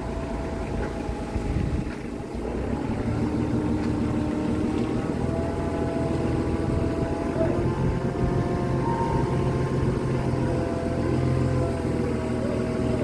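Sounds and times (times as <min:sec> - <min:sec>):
forklift engine running under load: 0:00.0 - 0:13.0.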